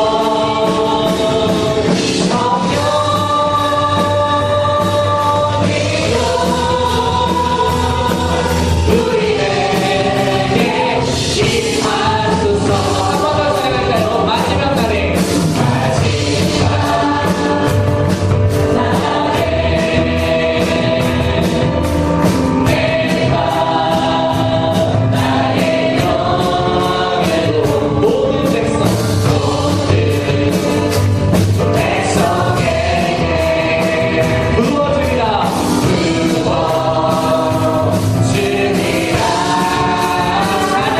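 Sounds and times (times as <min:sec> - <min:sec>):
band with steady beat: 0:00.0 - 0:40.9
choir and congregation singing: 0:00.0 - 0:40.9.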